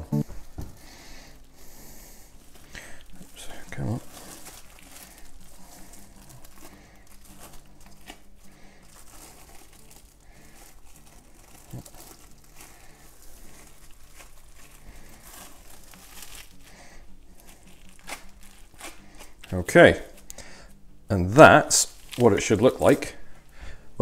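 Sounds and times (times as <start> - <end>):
cling film crinkling: 0.3 - 20.6, 21.2 - 23.5.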